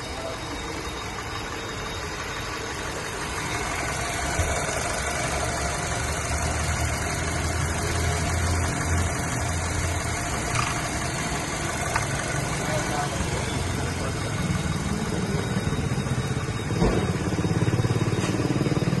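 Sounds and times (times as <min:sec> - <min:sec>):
car engine idling roughly: 0:00.0 - 0:19.0.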